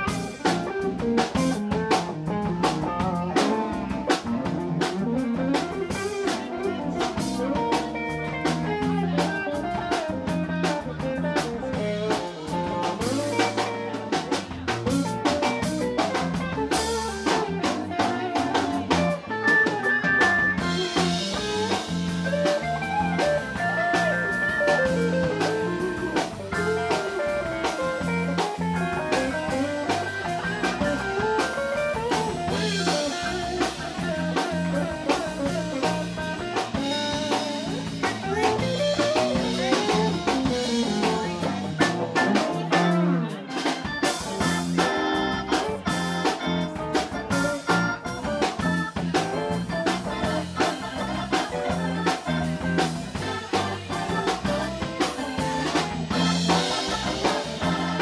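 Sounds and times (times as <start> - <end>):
bass guitar: 0.0 - 58.0
drum kit: 0.0 - 58.0
electric guitar: 0.0 - 58.0
organ: 0.0 - 58.0.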